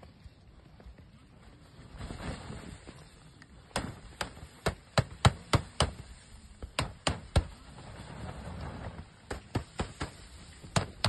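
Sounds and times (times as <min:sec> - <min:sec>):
pole smacking tent: 0:01.4 - 0:11.0.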